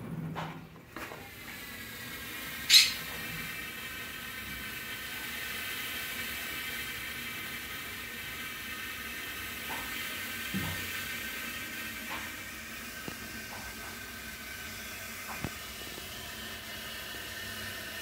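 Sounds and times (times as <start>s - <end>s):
gas hissing through piping: 1.0s - 18.0s.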